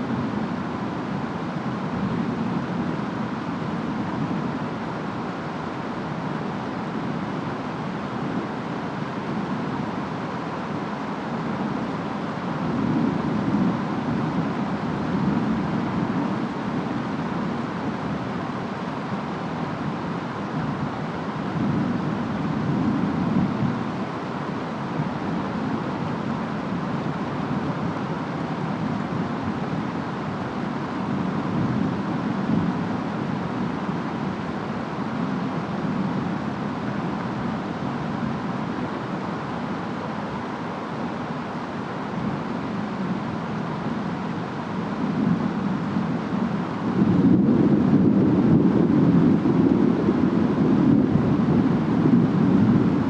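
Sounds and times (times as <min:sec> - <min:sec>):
rain and wind rushing: 0:00.0 - 0:53.0.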